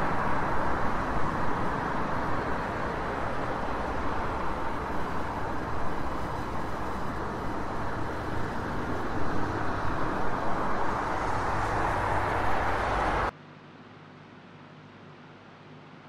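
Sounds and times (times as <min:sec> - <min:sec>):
rushing outdoor noise with rumble: 0:00.0 - 0:16.0.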